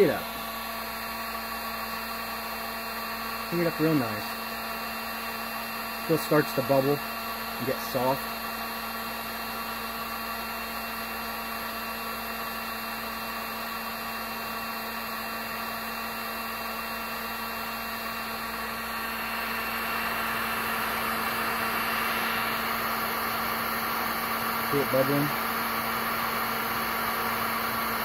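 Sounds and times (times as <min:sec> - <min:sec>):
heat gun whirring: 0:00.0 - 0:28.0.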